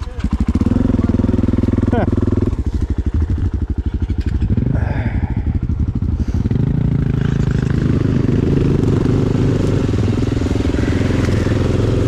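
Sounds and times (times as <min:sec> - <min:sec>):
dirt bike engine chugging: 0:00.0 - 0:12.0.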